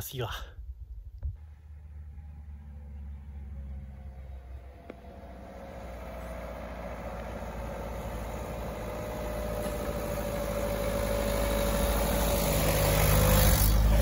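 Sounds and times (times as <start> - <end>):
car engine approaching: 1.2 - 14.0.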